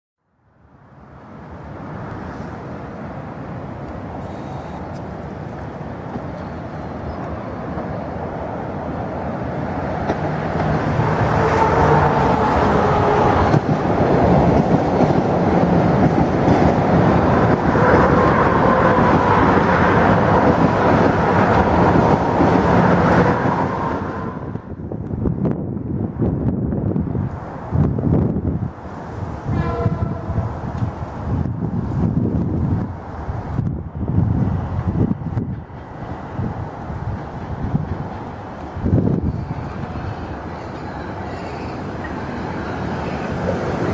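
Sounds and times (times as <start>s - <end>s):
electric train passing: 0.5s - 43.9s.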